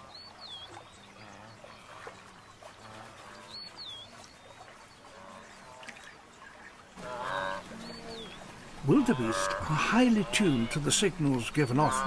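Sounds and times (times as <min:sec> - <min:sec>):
faint outdoor ambience by water: 0:00.0 - 0:12.0.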